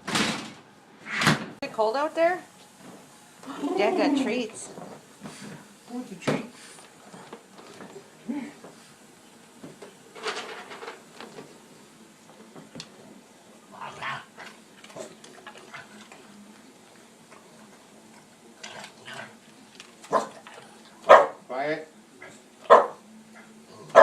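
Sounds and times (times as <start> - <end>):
faint room noise: 0.0 - 24.0.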